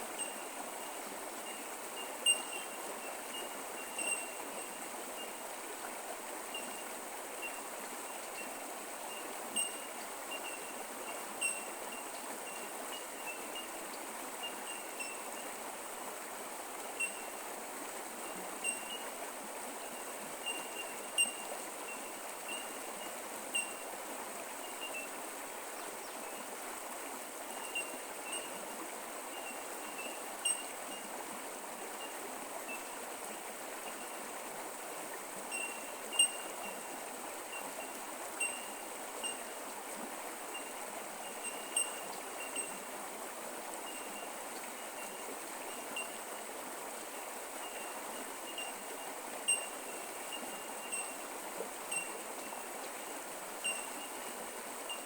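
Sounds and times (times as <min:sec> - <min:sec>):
creek running: 0:00.0 - 0:55.0.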